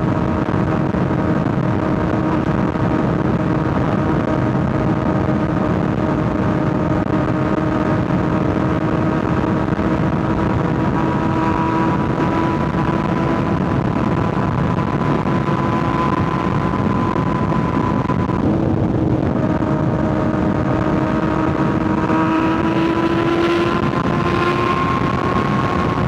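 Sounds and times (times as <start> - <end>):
motorcycle engine cruising: 0.0 - 26.0
wind and road noise: 0.0 - 26.0.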